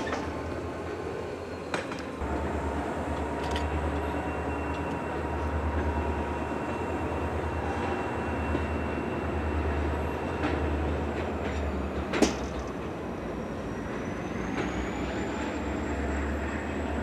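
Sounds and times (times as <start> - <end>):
diesel locomotive drone: 0.0 - 17.0
freight train rolling on rails: 0.0 - 17.0.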